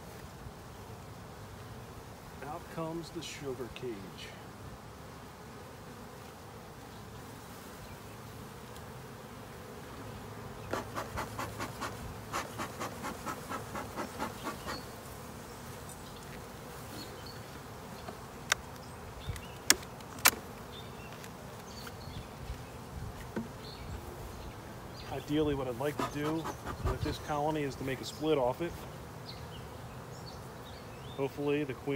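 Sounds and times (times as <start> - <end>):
bee smoker puffs: 0.0 - 31.9
honey bees buzzing: 0.0 - 31.9.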